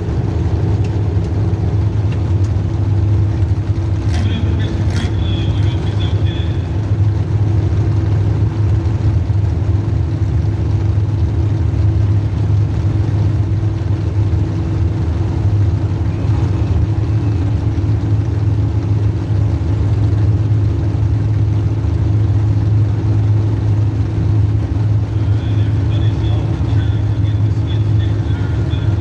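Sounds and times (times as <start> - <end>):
car engine running steadily: 0.0 - 29.0.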